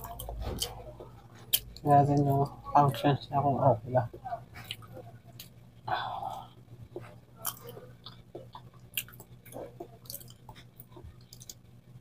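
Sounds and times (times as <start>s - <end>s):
person chewing with wet smacks: 0.0s - 3.0s, 4.1s - 5.6s, 6.3s - 11.7s
faint steady hum: 0.0s - 12.0s.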